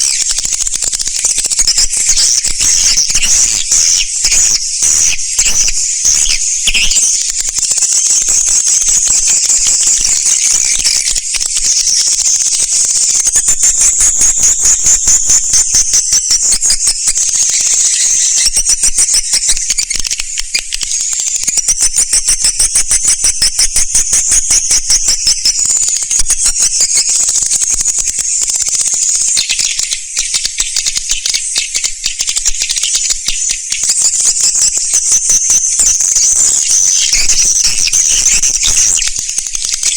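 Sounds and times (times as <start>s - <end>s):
swiftlets twittering: 0.0s - 28.0s, 33.9s - 39.9s.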